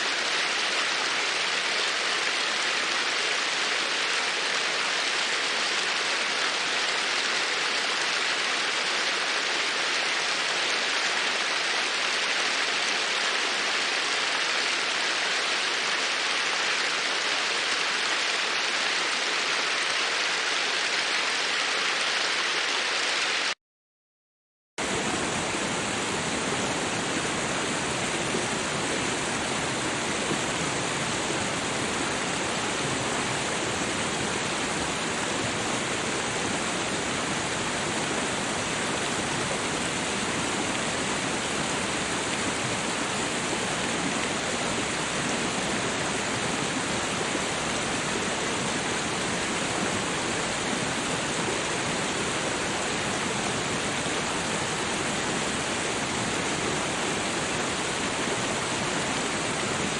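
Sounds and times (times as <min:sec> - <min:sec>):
rushing water hiss: 0:00.0 - 0:23.6, 0:24.8 - 0:59.9.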